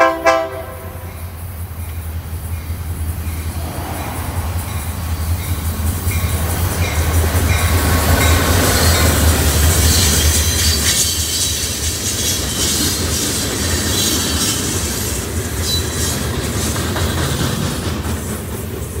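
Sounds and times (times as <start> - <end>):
wheels rumbling on track: 0.0 - 19.0.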